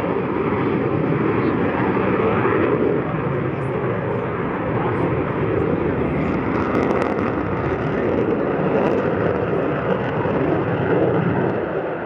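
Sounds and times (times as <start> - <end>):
jet engine roar overhead: 0.0 - 12.0.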